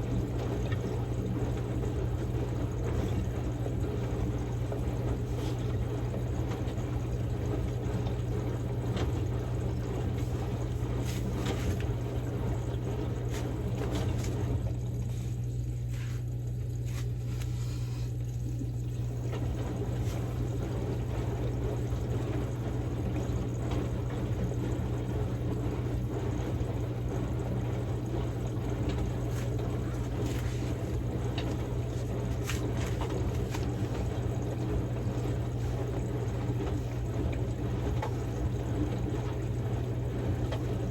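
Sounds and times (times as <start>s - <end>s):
steady low hum: 0.0s - 40.9s
water sloshing in washing machine drum: 0.0s - 40.9s.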